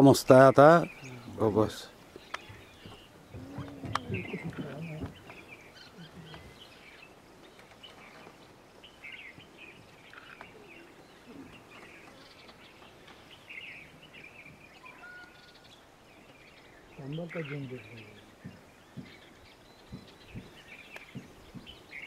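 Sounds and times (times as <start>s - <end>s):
low background hiss: 0.0s - 22.0s
faint bird chirps: 0.4s - 22.0s.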